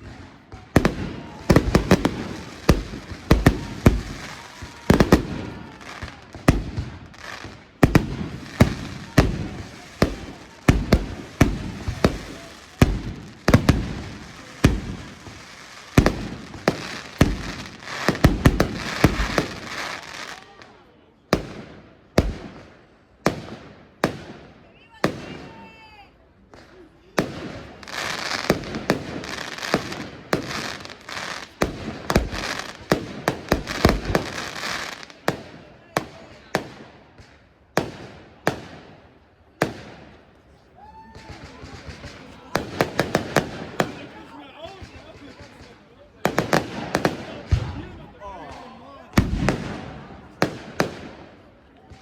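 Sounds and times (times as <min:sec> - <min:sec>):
firework crackling: 0:00.0 - 0:20.8, 0:26.4 - 0:51.8.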